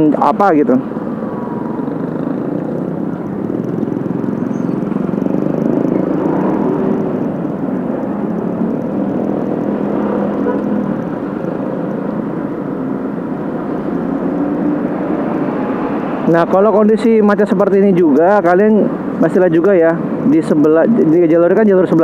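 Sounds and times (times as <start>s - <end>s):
motorcycle engine rumbling: 0.0s - 19.3s
nearby cars and truck: 0.0s - 22.0s.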